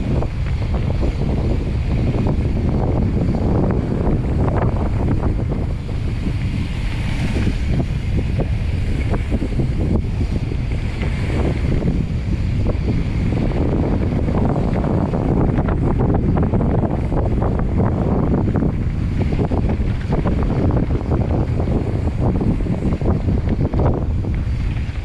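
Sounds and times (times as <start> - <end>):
wind buffeting microphone: 0.0 - 25.0
bike clicks and rattles: 4.0 - 25.0.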